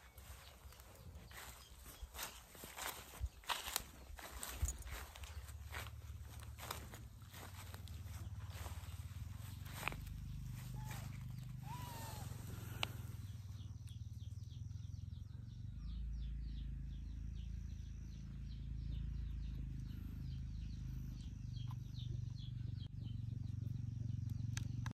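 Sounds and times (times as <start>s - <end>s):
bird chirping: 0.0s - 24.9s
steady low rumble: 0.0s - 24.9s.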